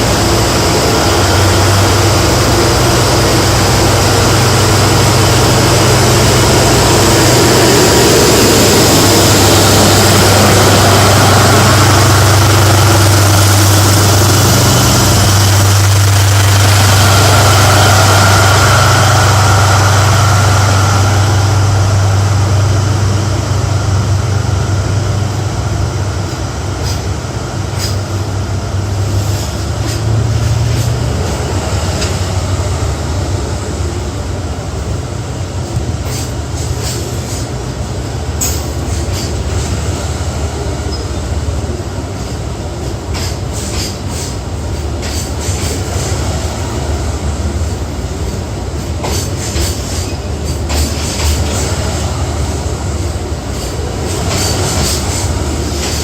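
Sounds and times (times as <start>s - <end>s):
locomotive low hum: 0.0s - 56.0s.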